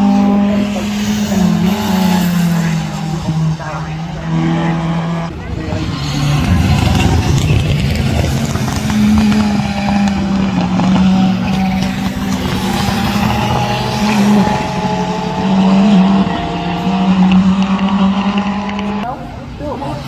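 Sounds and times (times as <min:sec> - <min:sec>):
rally car engines at high revs: 0:00.0 - 0:20.0.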